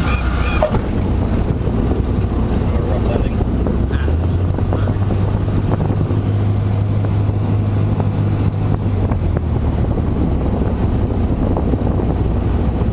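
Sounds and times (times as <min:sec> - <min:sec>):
small plane engine low drone: 0:00.0 - 0:12.9.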